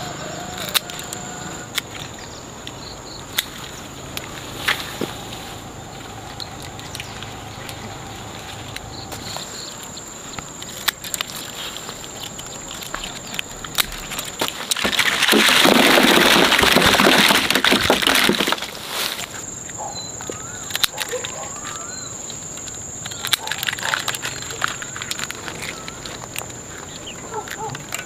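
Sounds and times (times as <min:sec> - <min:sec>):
bushes rustling: 0:00.0 - 0:28.0
calyxes rattling into bamboo basket: 0:03.4 - 0:19.7, 0:20.4 - 0:28.0.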